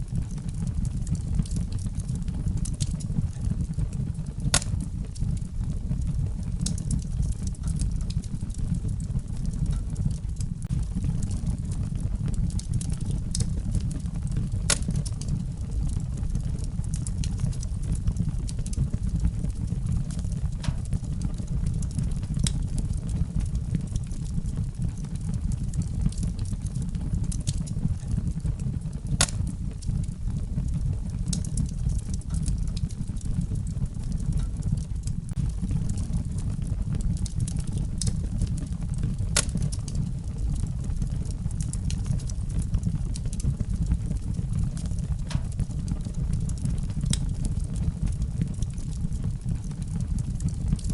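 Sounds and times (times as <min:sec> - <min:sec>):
fire crackles and pops: 0:00.0 - 0:50.9
fire flames roaring: 0:00.0 - 0:50.9.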